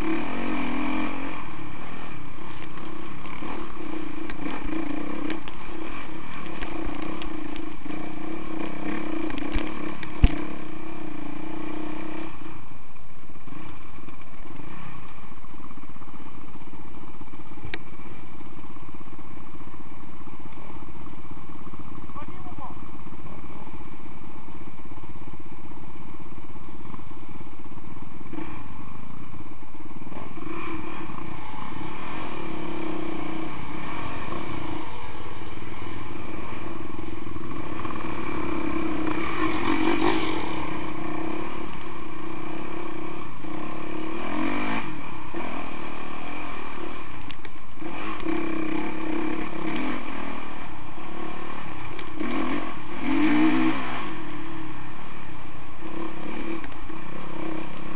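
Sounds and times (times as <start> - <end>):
dirt bike engine revving: 0.0 - 57.9
other dirt bike engines: 0.0 - 57.9.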